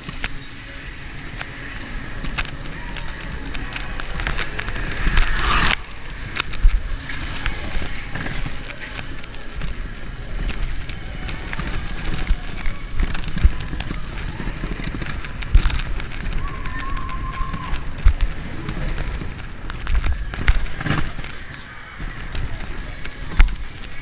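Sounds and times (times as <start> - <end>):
roller coaster wheels rumbling: 0.0 - 24.0
rattling and clattering: 1.1 - 24.0.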